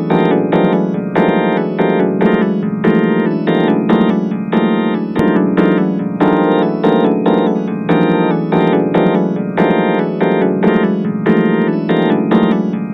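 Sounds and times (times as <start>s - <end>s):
vocoder keyboard chord stabs: 0.0s - 12.9s.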